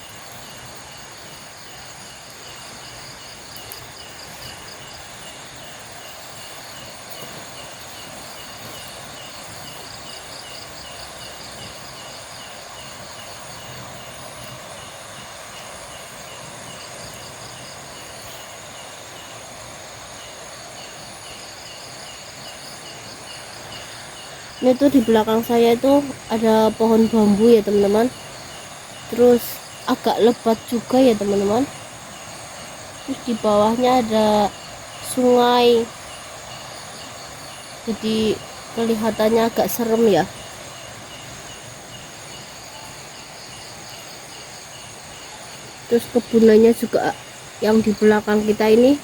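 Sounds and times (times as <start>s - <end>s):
background hiss: 0.0s - 49.0s
insect chirping: 0.0s - 49.0s
insect trilling: 0.0s - 49.0s
insects buzzing: 0.0s - 49.0s.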